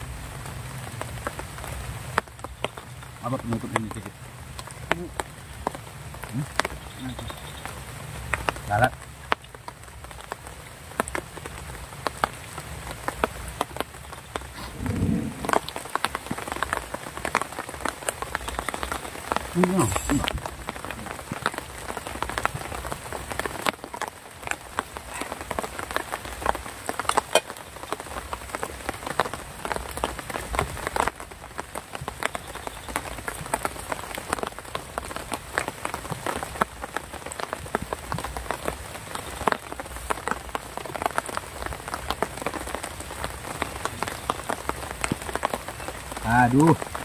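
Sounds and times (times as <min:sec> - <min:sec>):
rain pattering: 0:00.0 - 0:47.0.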